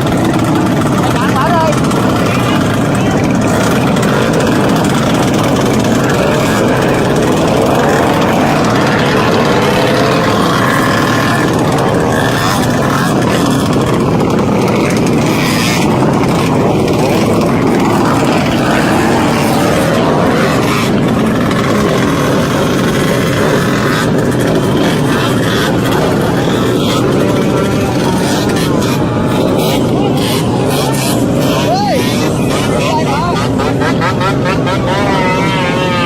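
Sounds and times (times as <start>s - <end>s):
small motorbike engines revving: 0.0s - 36.0s.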